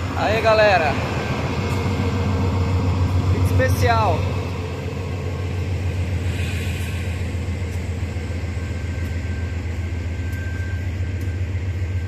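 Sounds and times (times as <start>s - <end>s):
locomotive engines rumbling: 0.0s - 12.0s.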